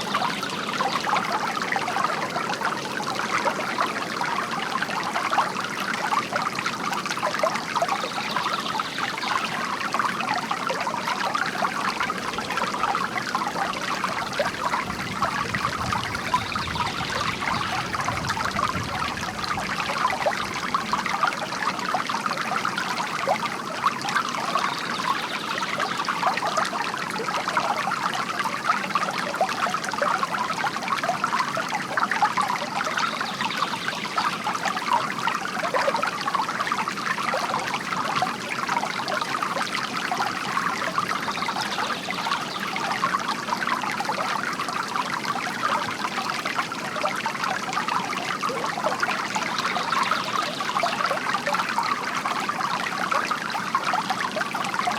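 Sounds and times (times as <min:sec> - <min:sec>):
fountain water trickling: 0:00.0 - 0:54.9.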